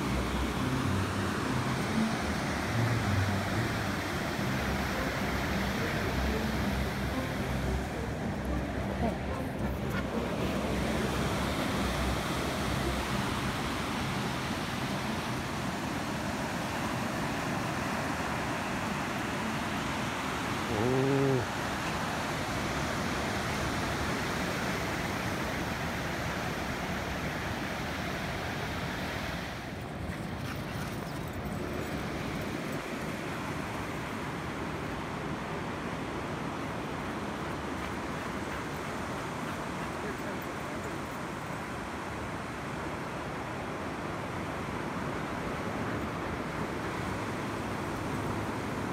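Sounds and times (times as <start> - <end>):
ocean surf breaking: 0.0 - 48.9.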